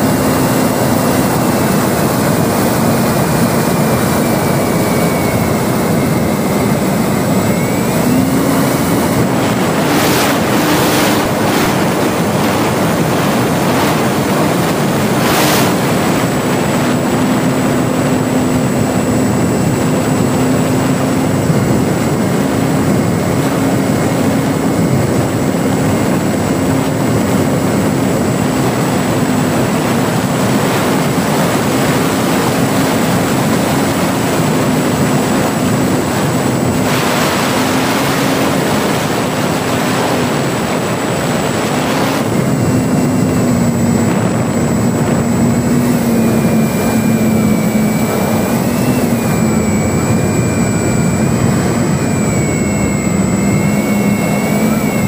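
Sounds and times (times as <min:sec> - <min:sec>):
model plane motor humming: 0:00.0 - 0:55.0
wind rush over microphone: 0:00.0 - 0:55.0.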